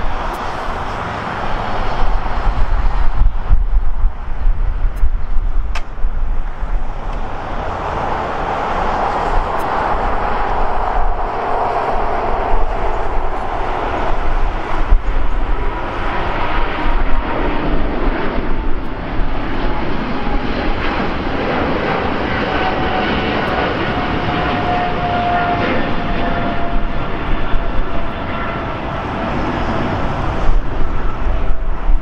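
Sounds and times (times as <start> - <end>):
jet engine roar: 0.0 - 32.0
jet engine whine: 0.0 - 32.0.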